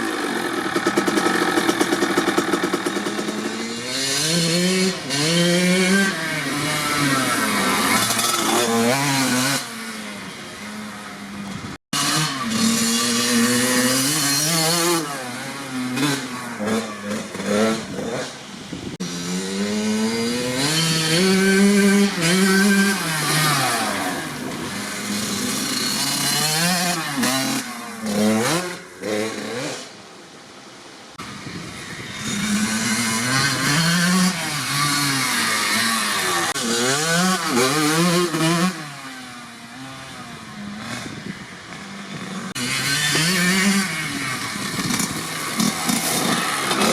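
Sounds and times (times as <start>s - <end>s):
two-stroke motorcycle engine revving: 0.0s - 29.9s, 31.2s - 46.9s.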